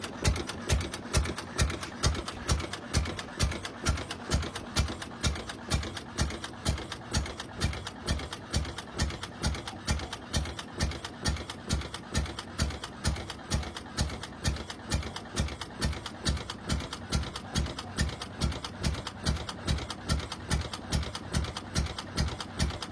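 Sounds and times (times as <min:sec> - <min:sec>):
single-cylinder engine running slowly: 0:00.0 - 0:22.9.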